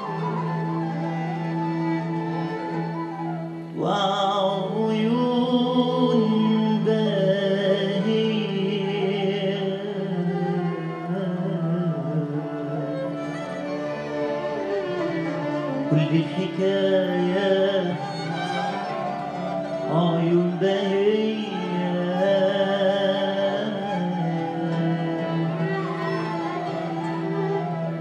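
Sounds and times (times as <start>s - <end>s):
orchestra with violins: 0.0s - 28.0s
man singing ornamented notes: 3.7s - 13.7s, 15.3s - 28.0s.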